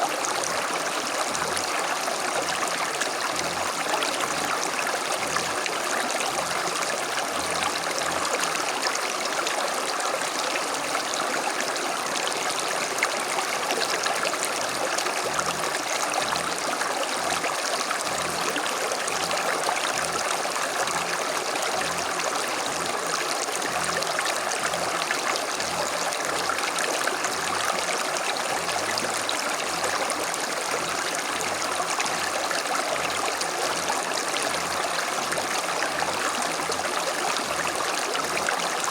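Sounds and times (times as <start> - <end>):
creek running over stones: 0.0 - 38.9.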